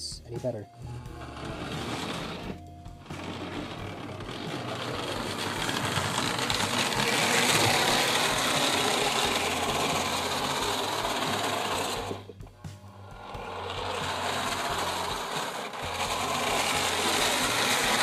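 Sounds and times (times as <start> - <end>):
toy train motor whirring: 0.9 - 18.0.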